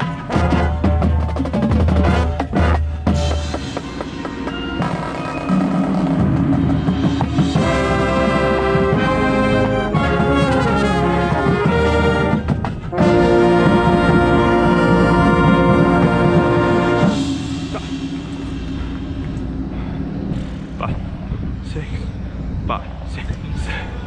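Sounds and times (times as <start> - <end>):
marching band brass chords: 0.0 - 19.4.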